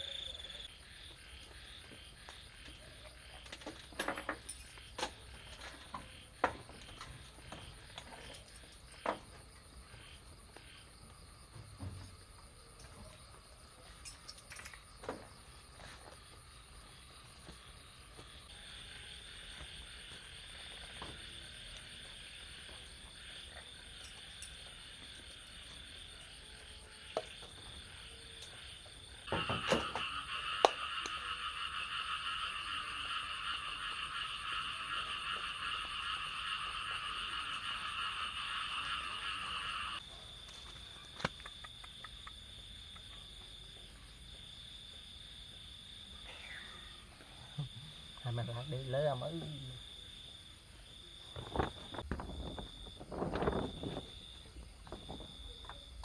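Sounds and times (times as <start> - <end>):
frogs croaking: 0.0 - 56.0.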